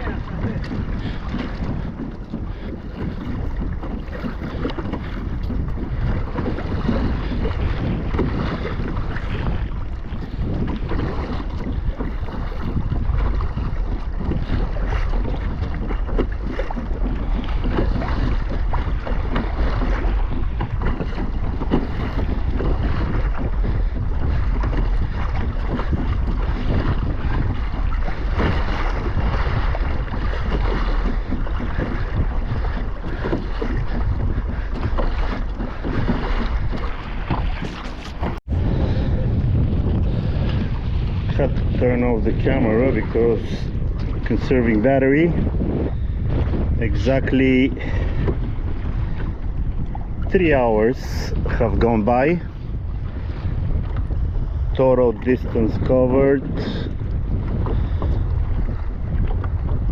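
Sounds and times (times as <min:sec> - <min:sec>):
water splashing against kayak hull: 0:00.0 - 0:59.9
wind buffeting microphone: 0:00.0 - 0:59.9.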